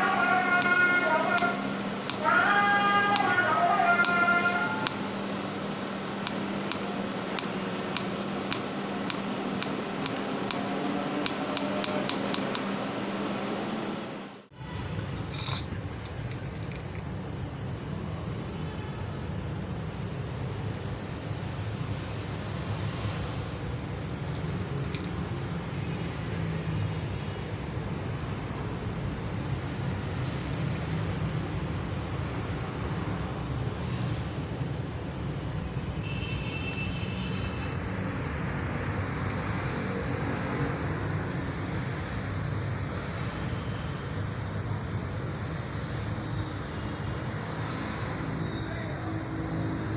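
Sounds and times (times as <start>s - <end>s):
high-pitched insect trill: 0.0s - 49.9s.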